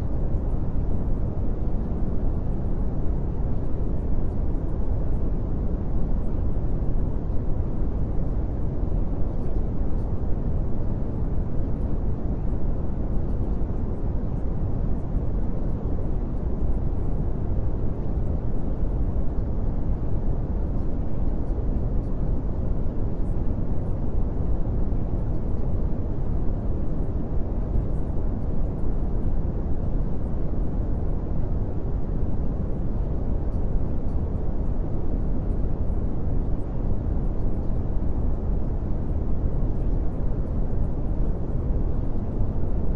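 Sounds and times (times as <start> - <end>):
deep steady rumbling noise: 0.0 - 42.9.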